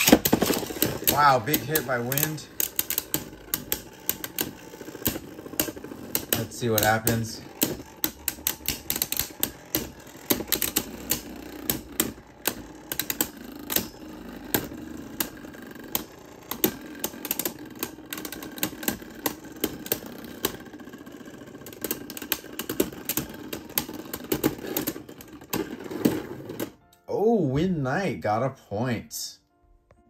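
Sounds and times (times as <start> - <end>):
spinning tops clacking together: 0.0 - 26.7
spinning whir: 0.0 - 26.8.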